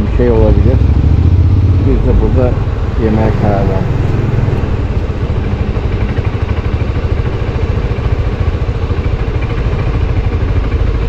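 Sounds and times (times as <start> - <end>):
scooter engine rumbling: 0.0 - 11.0.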